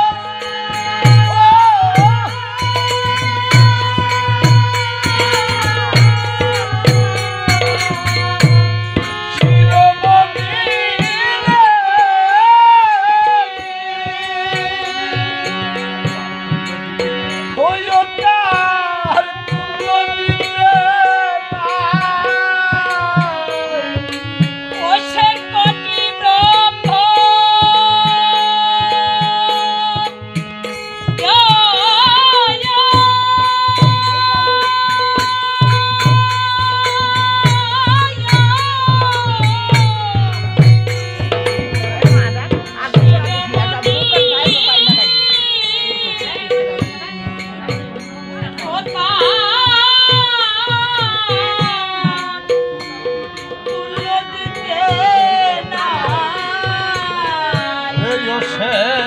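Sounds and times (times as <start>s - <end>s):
ornamented melody line: 0.0s - 59.0s
tabla strokes: 0.0s - 59.0s.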